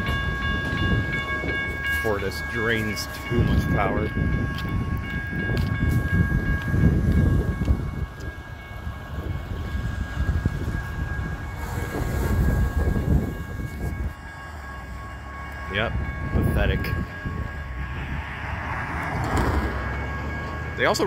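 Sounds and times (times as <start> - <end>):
wind buffeting microphone: 0.0 - 20.8
cars passing: 0.0 - 21.0
crossing warning bell ringing: 0.0 - 21.0.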